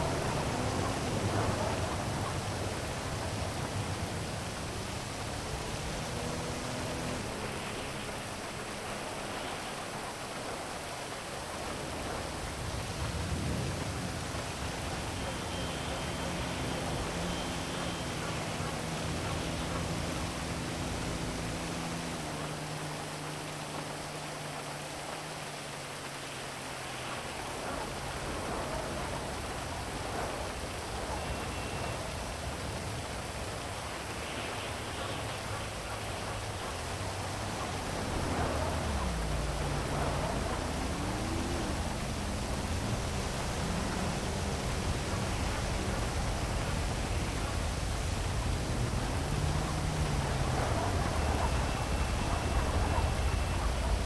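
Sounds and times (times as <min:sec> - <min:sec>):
vehicle passing: 0:00.0 - 0:10.3, 0:11.6 - 0:54.0
heavy rain hissing: 0:00.0 - 0:54.0
low hum of traffic: 0:00.0 - 0:54.0.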